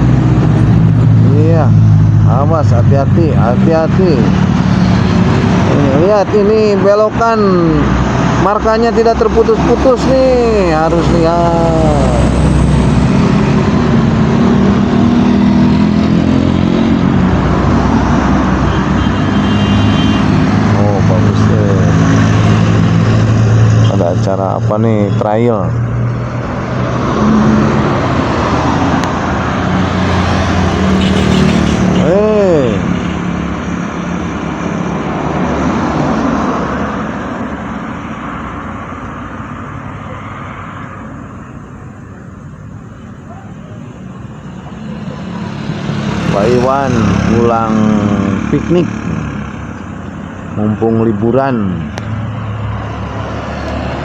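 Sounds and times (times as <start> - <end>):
road vehicle passing by: 0.0 - 54.0.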